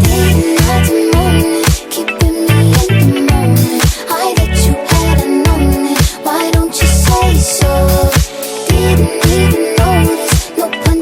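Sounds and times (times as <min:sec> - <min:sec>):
disco-pop song: 0:00.0 - 0:11.0.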